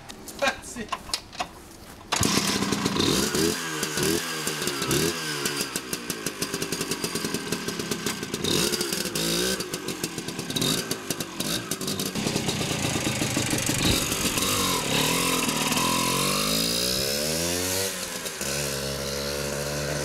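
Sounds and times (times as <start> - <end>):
scooter engine revving: 2.1 - 20.0.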